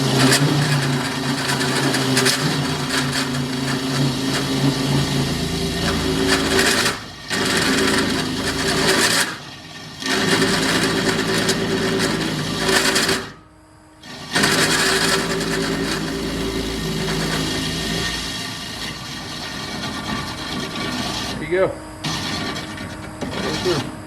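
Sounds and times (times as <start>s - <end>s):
drill press motor hum: 0.0s - 24.0s
harsh cutting through steel: 0.0s - 24.0s.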